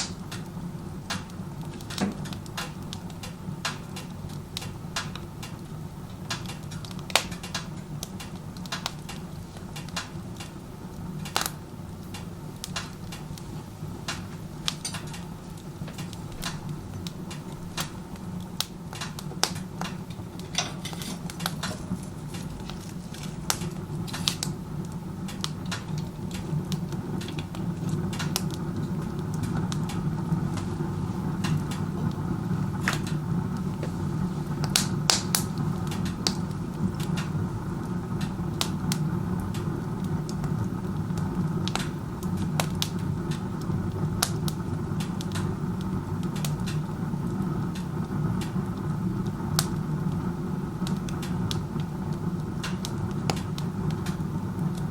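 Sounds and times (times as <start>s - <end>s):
low rumble of chimney draft: 0.0s - 54.9s
wood fire crackling and popping: 0.0s - 54.9s.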